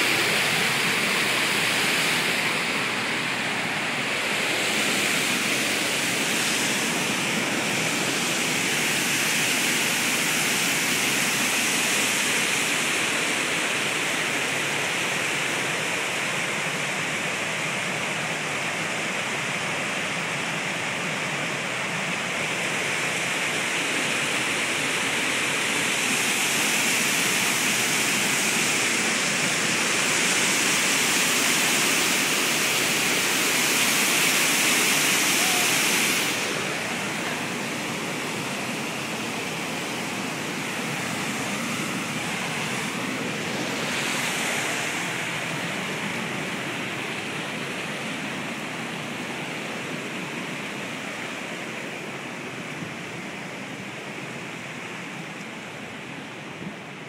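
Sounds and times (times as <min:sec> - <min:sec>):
rush of white water: 0:00.0 - 0:57.0.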